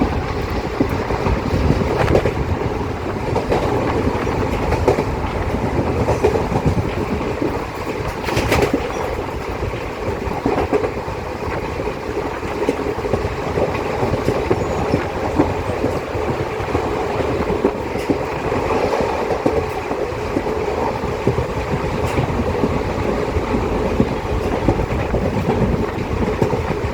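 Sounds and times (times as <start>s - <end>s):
train knocks: 0.0s - 26.9s
train wheels rumbling on rails: 0.0s - 26.9s.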